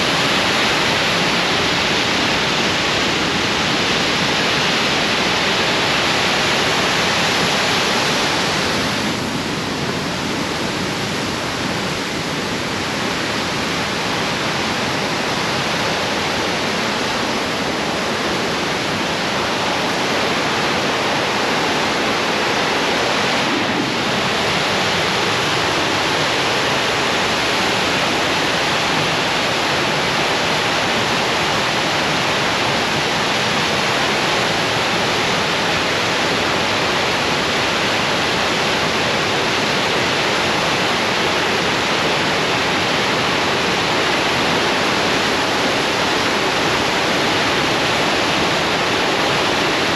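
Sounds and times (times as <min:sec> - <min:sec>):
waterfall and rapids rushing: 0:00.0 - 0:49.9.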